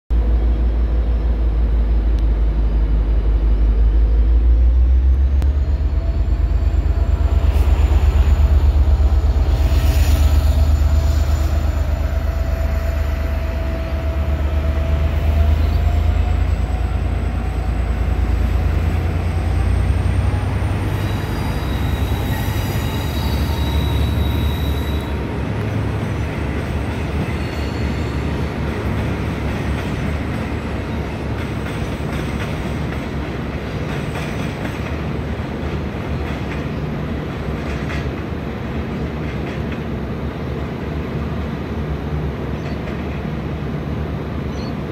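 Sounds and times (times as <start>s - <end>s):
diesel locomotive engine rumble: 0.1s - 44.9s.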